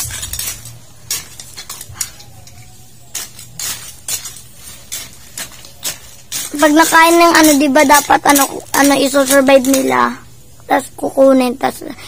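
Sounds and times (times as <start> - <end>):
small hard objects clinking: 0.0 - 10.2.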